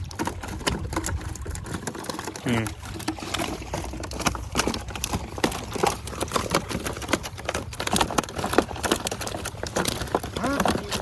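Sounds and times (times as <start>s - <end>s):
fish flapping and slapping: 0.0s - 11.0s.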